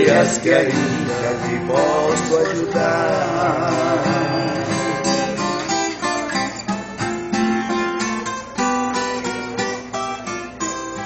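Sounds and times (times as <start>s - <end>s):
acoustic guitar strummed and picked: 0.0s - 11.0s.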